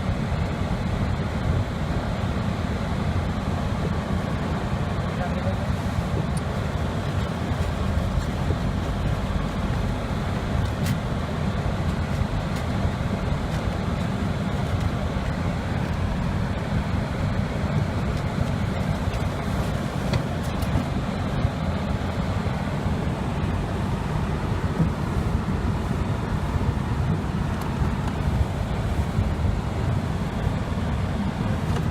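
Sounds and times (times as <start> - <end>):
car engine and tyres rumbling: 0.0 - 31.9.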